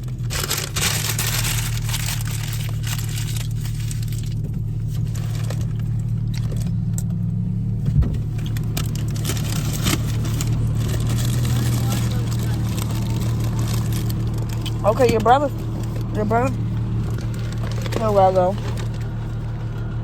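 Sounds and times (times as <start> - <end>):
engine and road hum: 0.0 - 20.0.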